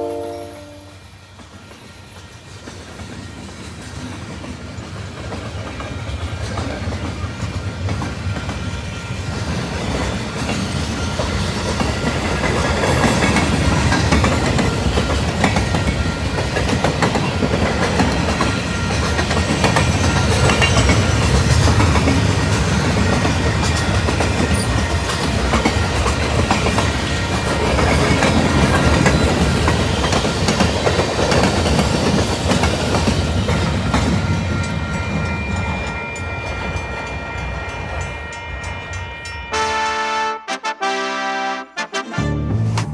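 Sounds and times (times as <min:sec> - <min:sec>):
train cars rumbling on rails: 0:00.0 - 0:40.2.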